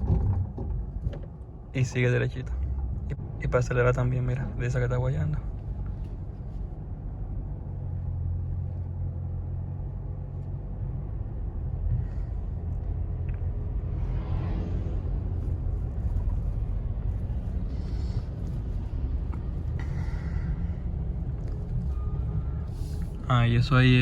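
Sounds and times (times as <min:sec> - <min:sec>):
car driving heard from cabin: 0:00.0 - 0:24.0.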